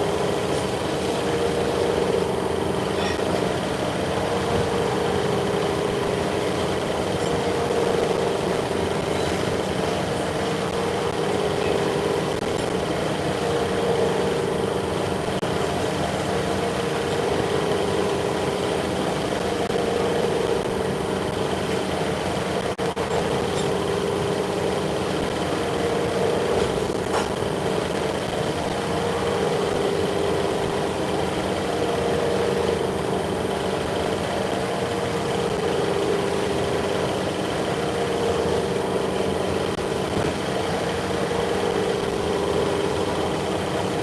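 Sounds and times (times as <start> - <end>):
workshop machinery humming: 0.0 - 44.0.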